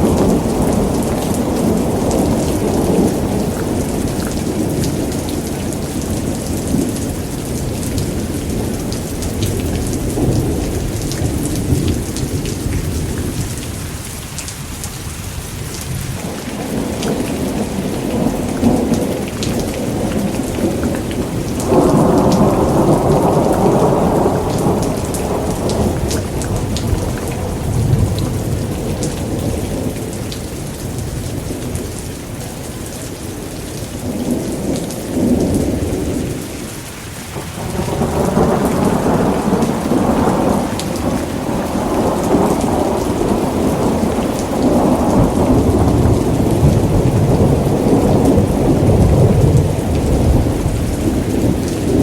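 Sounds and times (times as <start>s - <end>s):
rolling thunder rumbles: 0.0s - 13.8s, 15.7s - 52.0s
steady rain: 0.0s - 52.0s.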